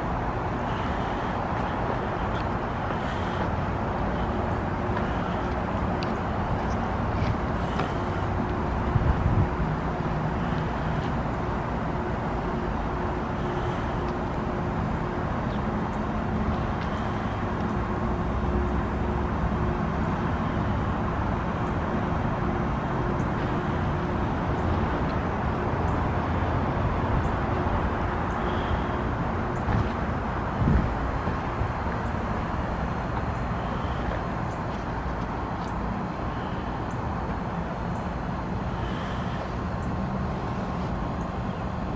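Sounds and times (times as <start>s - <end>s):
heat pump hum: 0.0s - 41.9s.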